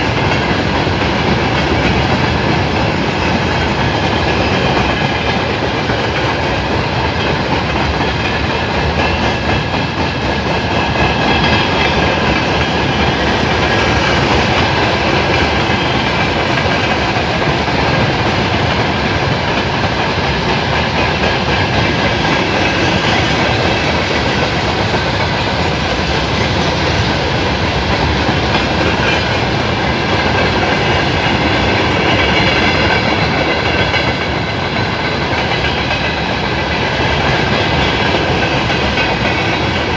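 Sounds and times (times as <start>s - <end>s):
passenger train rolling past: 0.0s - 39.9s.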